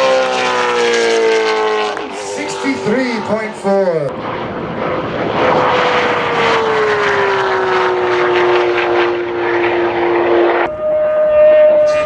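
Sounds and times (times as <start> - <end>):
sports car engine passing: 0.0 - 12.0.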